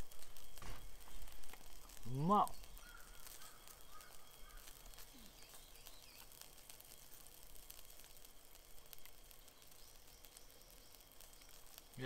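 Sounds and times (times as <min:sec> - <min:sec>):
faint high chirps: 0:00.0 - 0:12.0.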